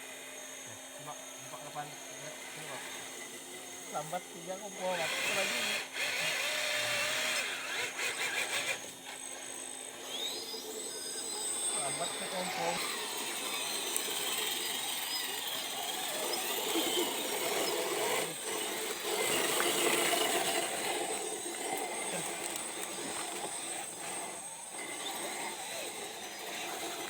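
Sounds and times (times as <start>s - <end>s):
electric motor and gears whirring: 0.0s - 27.0s
outdoor noise: 0.0s - 27.0s.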